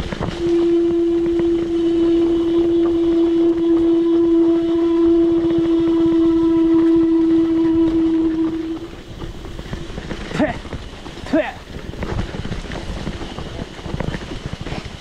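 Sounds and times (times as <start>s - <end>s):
mountain bike whine: 0.0s - 15.0s
rough trail rumbling: 0.0s - 15.0s.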